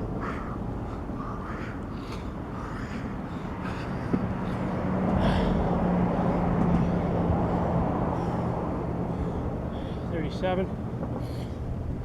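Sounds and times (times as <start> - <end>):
low outdoor rumble: 0.0 - 12.0
vehicle engine hum: 0.0 - 12.0.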